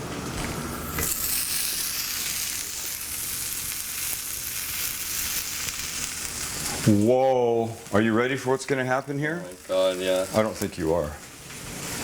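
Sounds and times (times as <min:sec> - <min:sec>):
butter sizzling in a pan: 0:00.7 - 0:12.0.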